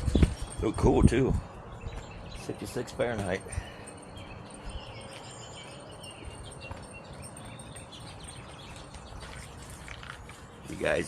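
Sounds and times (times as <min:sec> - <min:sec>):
faint high chirping: 0:00.0 - 0:10.9
wind buffeting microphone: 0:00.0 - 0:11.0.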